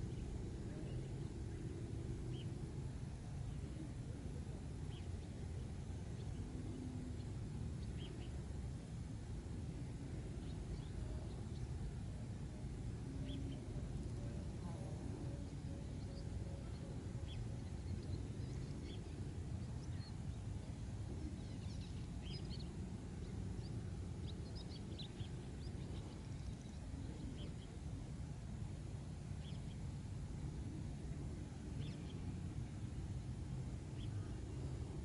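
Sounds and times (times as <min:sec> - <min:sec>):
low wind rumble: 0:00.0 - 0:35.0.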